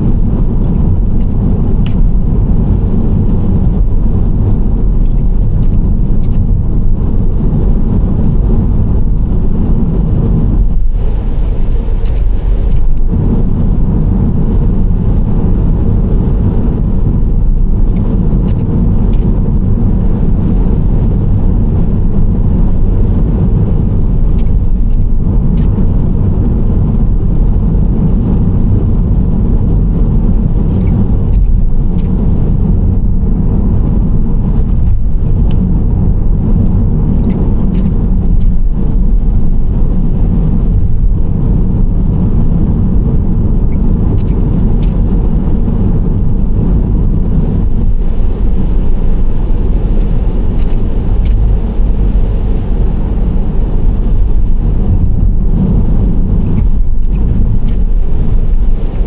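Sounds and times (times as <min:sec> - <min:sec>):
minivan road and engine noise: 0:00.0 - 0:59.0.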